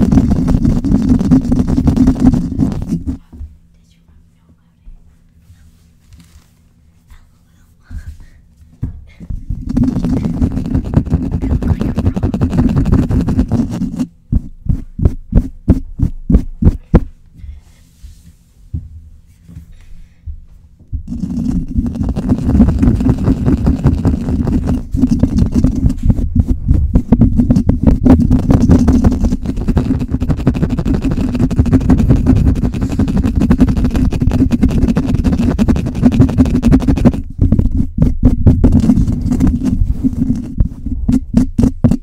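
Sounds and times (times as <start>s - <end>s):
scratching on microphone: 0.0s - 3.4s, 5.4s - 8.5s, 9.1s - 18.7s, 20.9s - 42.0s.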